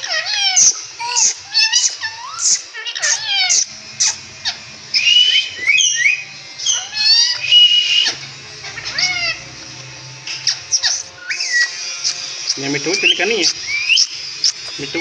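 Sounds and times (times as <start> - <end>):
parakeet whistles and chirps: 0.0 - 15.0.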